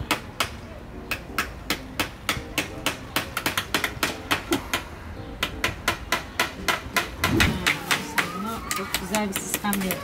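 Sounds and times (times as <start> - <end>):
hammer tapping nails: 1.1 - 10.0.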